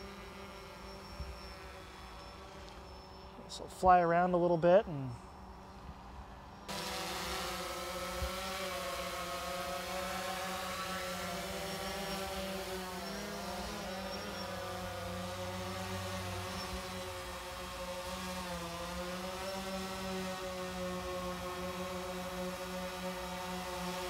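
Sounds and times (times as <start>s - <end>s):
quadcopter buzzing: 0.0s - 3.5s, 5.1s - 24.0s.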